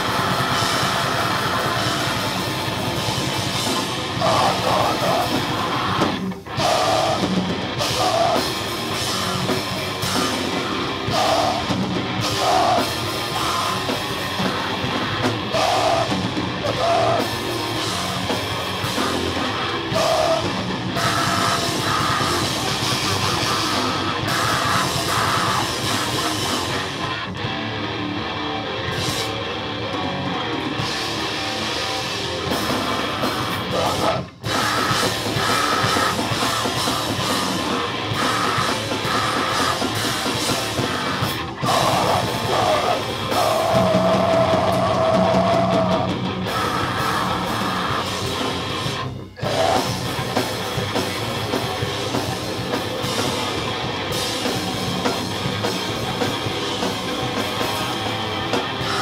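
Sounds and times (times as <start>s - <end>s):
distorted electric guitar: 0.0s - 59.0s
pounding drum kit: 0.0s - 59.0s.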